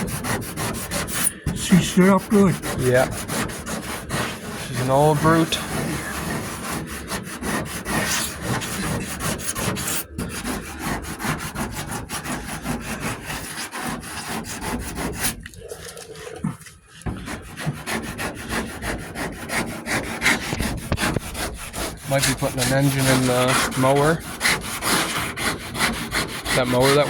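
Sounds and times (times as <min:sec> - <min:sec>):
hand sanding scraping strokes: 0:00.0 - 0:16.4, 0:17.1 - 0:27.0.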